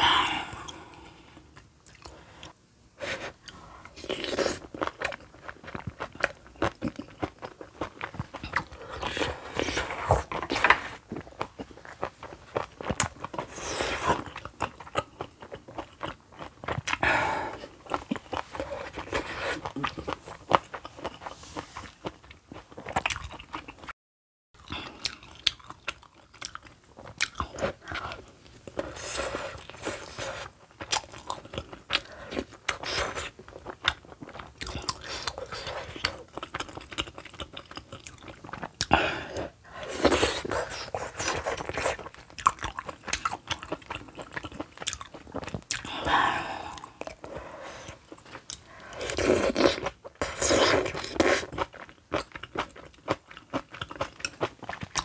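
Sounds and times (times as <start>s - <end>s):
person chewing with crunches: 0.0s - 23.9s, 24.6s - 55.0s.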